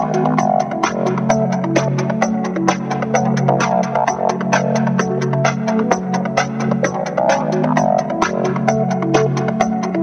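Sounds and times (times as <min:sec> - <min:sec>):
background music with quick beat: 0:00.0 - 0:10.0.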